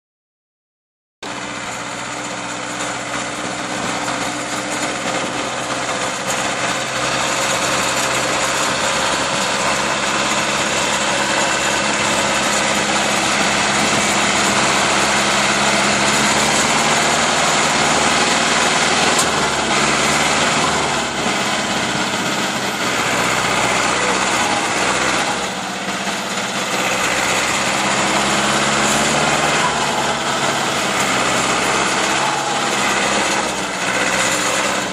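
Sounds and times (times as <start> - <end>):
tractor diesel engine running hard: 1.2 - 34.9.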